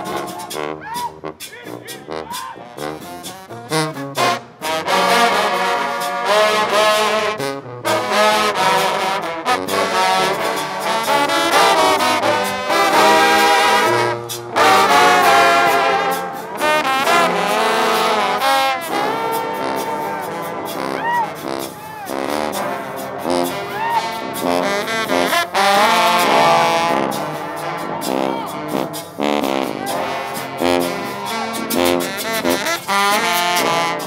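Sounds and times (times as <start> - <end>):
brass band playing gospel tune: 0.0 - 34.0.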